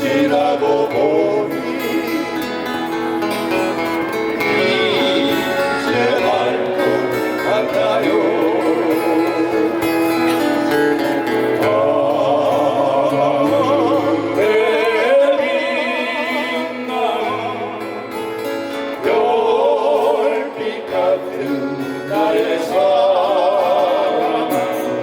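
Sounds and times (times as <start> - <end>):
guitar: 0.0 - 25.0.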